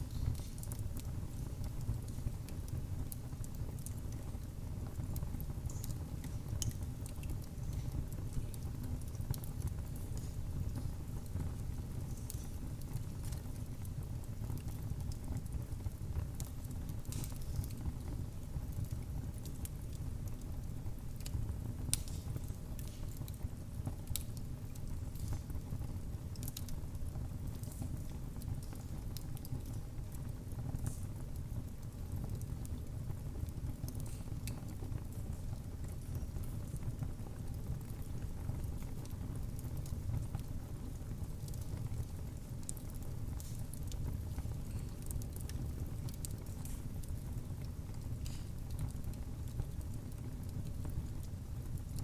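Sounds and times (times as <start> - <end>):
fire pops and snaps: 0.0 - 52.0
low rumble of burning: 0.0 - 52.0
wood fire crackling: 0.0 - 52.0.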